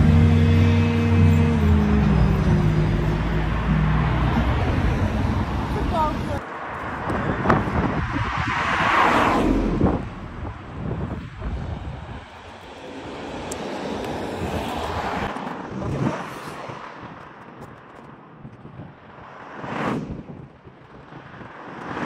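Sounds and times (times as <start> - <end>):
cars driving past: 0.0 - 22.0.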